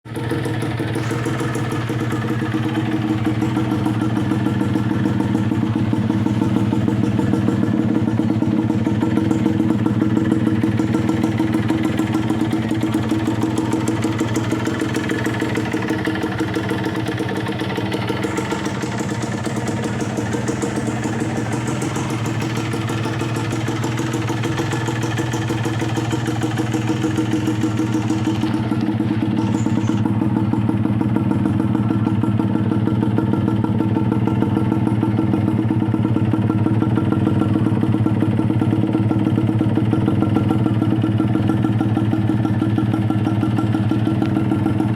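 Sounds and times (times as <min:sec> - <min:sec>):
two-stroke engine idling: 0:00.1 - 0:44.9.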